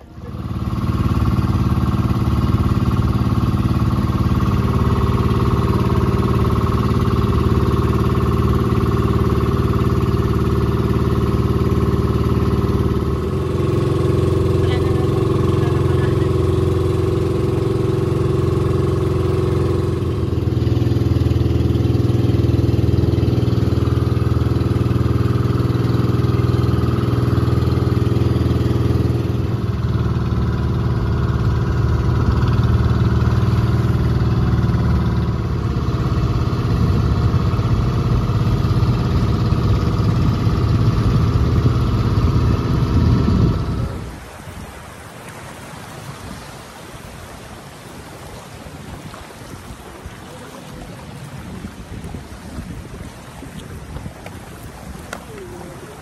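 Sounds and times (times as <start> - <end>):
motor engine droning: 0.0 - 56.0.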